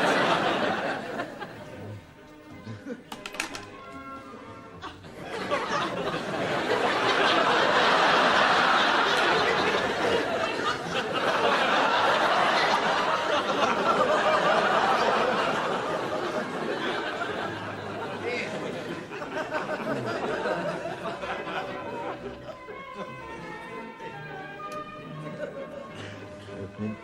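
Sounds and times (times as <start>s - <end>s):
audience laughing: 0.0s - 3.6s, 4.8s - 24.4s, 25.0s - 27.0s.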